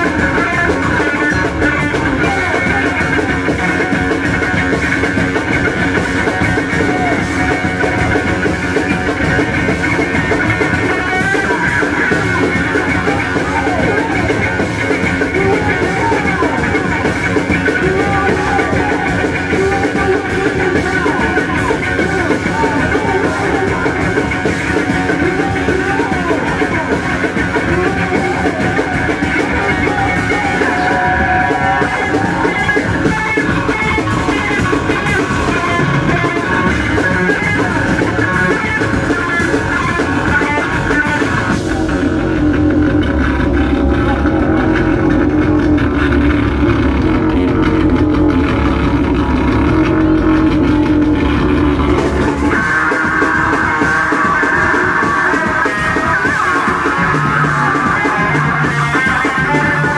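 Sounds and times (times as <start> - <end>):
distorted bass guitar riffing: 0.0 - 59.9
fast pounding drums: 0.0 - 59.9.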